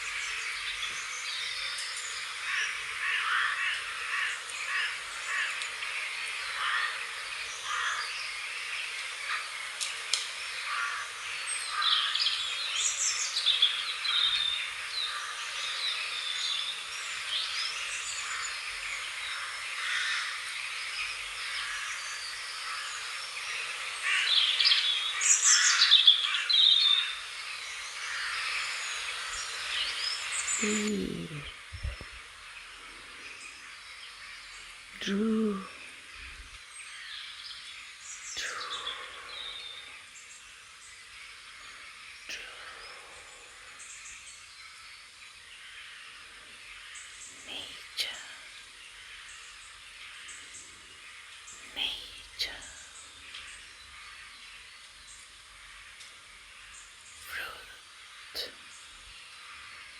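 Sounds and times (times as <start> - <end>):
songbirds chirping and singing: 0.0 - 59.9
steady background hiss: 0.0 - 59.9.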